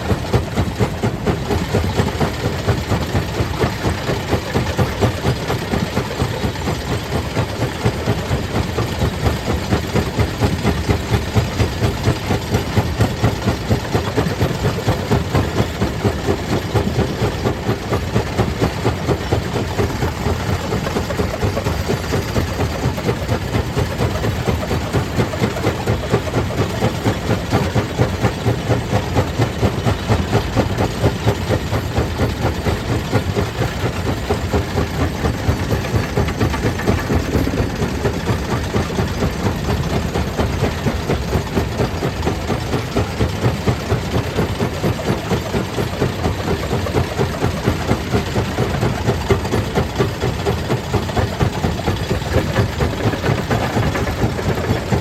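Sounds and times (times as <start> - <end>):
stone crusher machinery drone: 0.0 - 55.0.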